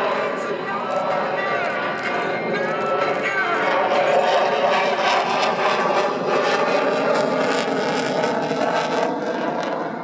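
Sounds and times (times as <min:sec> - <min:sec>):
jet engine roar: 0:00.0 - 0:10.0.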